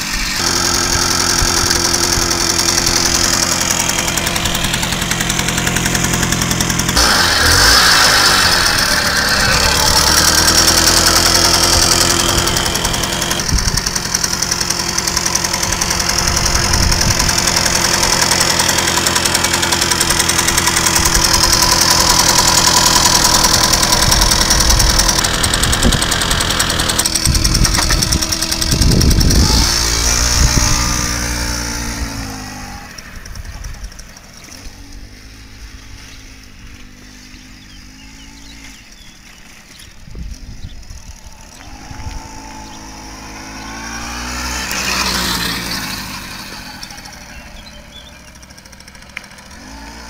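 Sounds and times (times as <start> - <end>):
moped engine running: 0.0 - 50.0.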